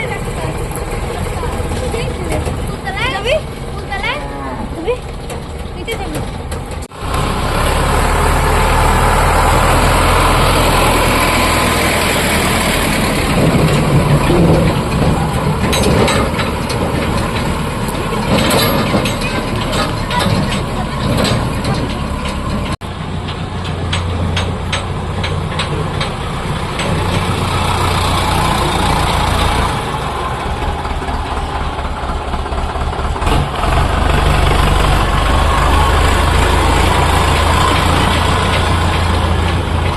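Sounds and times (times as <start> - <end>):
rattling: 0.0 - 7.3, 8.5 - 39.9
tractor diesel engine rumbling: 0.0 - 39.9.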